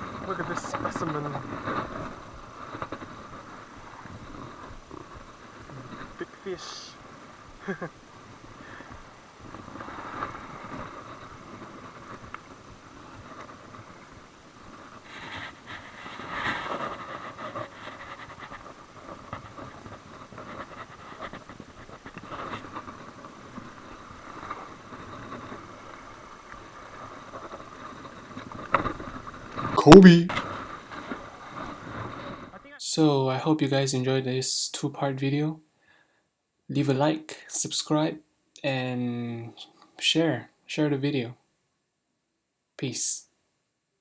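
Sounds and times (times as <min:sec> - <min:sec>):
wind: 0:00.0 - 0:44.0.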